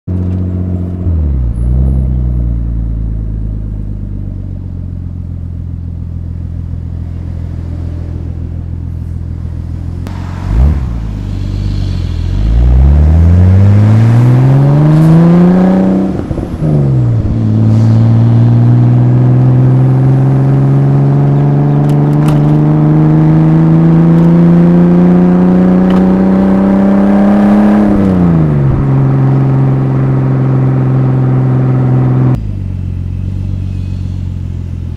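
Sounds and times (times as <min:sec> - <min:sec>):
turbocharged car exhaust revving: 0:00.1 - 0:34.9.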